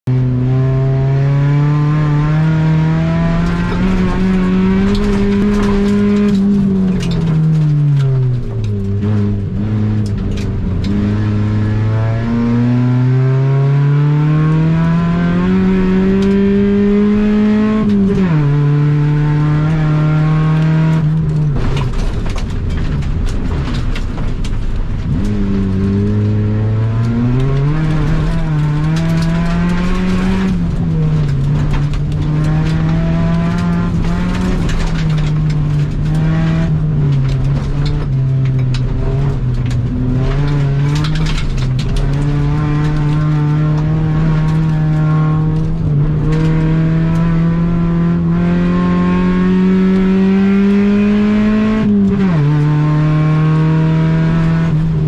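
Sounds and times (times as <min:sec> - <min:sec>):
car engine revving under load: 0:00.0 - 0:55.0
car interior clicks and rattles: 0:01.4 - 0:11.8, 0:14.3 - 0:55.0.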